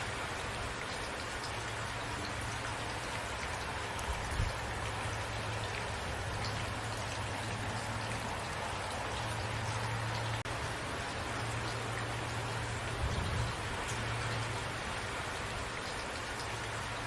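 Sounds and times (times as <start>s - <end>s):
continuous hiss: 0.0s - 17.0s
rain drops pattering: 0.0s - 17.0s.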